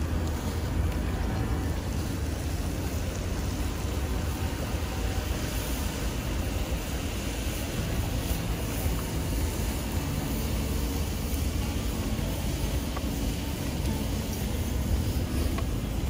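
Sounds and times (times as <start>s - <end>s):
broth pouring into skillet: 0.0s - 16.0s
food sizzling in skillet: 0.0s - 16.0s.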